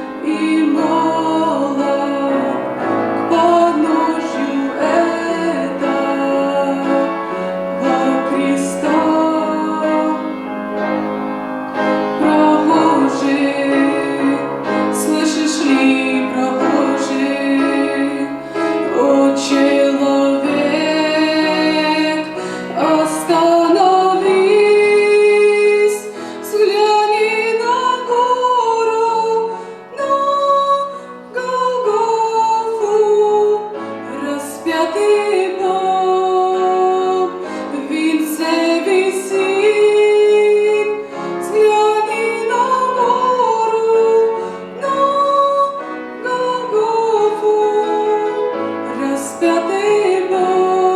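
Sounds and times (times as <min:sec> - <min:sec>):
woman singing: 0:00.0 - 0:11.2, 0:11.9 - 0:50.9
piano accompaniment: 0:00.0 - 0:50.9.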